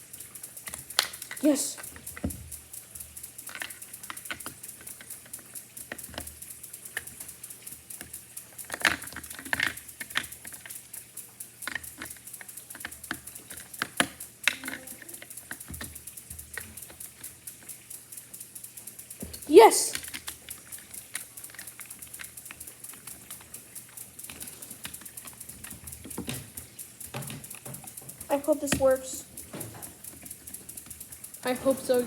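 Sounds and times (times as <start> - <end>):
small plastic clicks and taps: 0.1 - 32.0.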